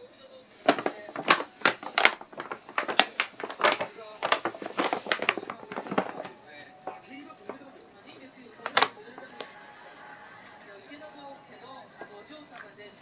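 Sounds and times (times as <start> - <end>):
paper bag crackling: 0.3 - 12.8.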